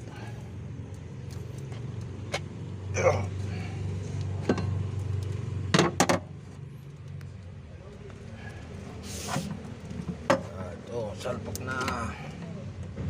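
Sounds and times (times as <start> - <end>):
engine parts clicking: 0.0 - 13.0
steady low hum: 0.0 - 13.0.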